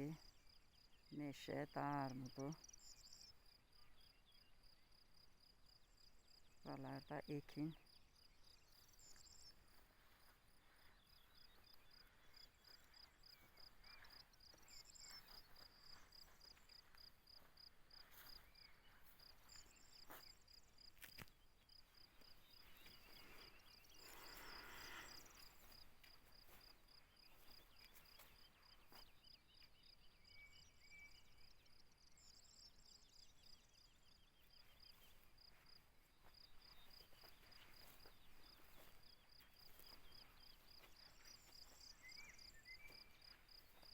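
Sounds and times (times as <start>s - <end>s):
faint bird chirps: 0.0s - 6.8s, 7.6s - 43.9s
insect chirping: 7.9s - 43.9s.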